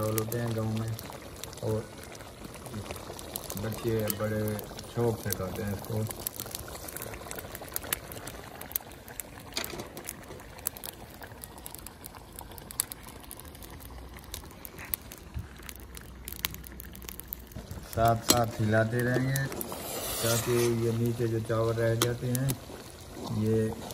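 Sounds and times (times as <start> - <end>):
rice boiling in a pot: 0.0 - 23.9
small popping: 0.0 - 23.9.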